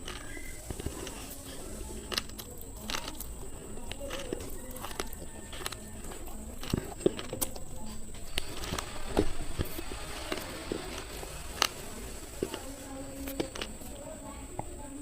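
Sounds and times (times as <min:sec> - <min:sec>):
slate pencils crunching in teeth: 0:00.0 - 0:14.0.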